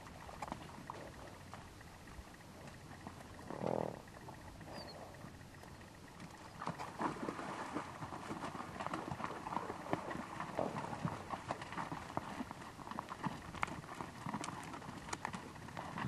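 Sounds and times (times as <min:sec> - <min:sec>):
hooves on stony ground: 0:00.0 - 0:16.0.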